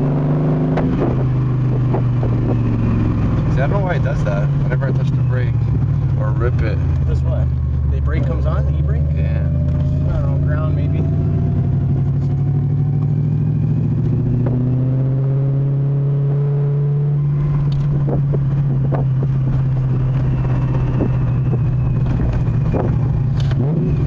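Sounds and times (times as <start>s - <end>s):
car engine drone from inside cabin: 0.0s - 24.0s.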